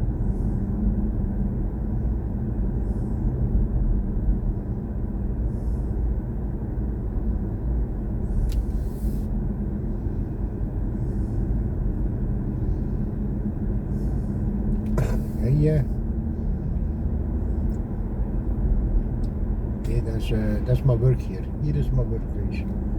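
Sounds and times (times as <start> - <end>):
road and tyre rumble: 0.0 - 22.9.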